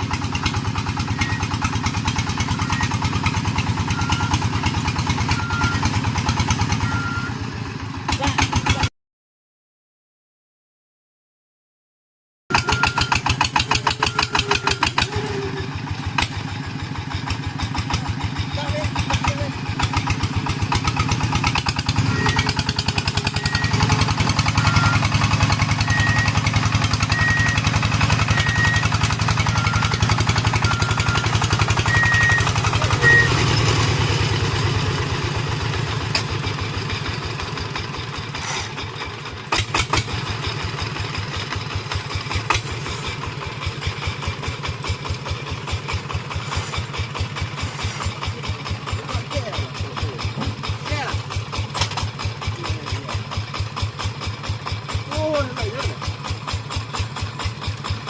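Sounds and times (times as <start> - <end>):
diesel tractor engine chugging: 0.0 - 8.9, 12.5 - 58.0.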